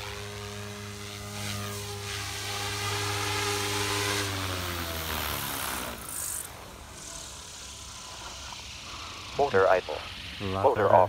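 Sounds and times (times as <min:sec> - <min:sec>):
rc helicopter rotor whine: 0:00.0 - 0:11.0.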